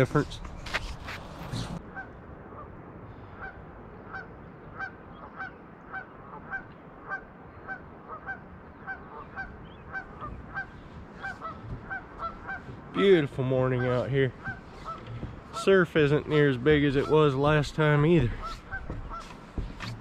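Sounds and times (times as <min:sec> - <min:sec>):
bird honking calls: 0:03.4 - 0:20.0.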